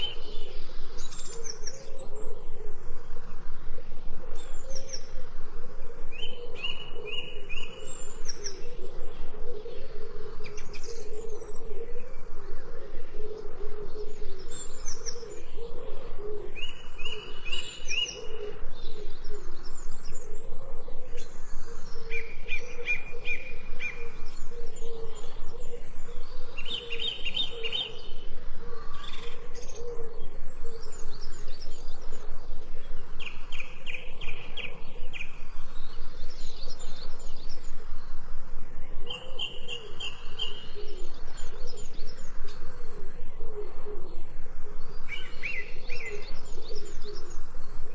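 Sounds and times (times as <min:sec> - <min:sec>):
songbirds trilling: 0:00.0 - 0:47.9
steady low background: 0:02.3 - 0:47.9.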